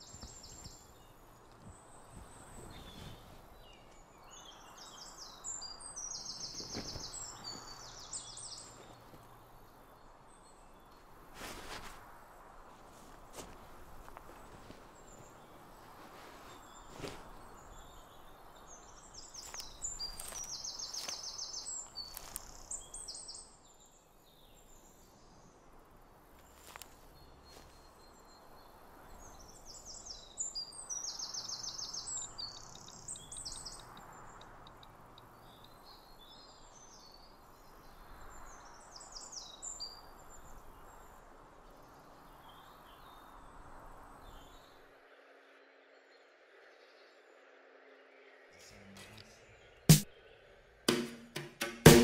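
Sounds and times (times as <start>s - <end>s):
songbird chirping: 0.0s - 52.0s.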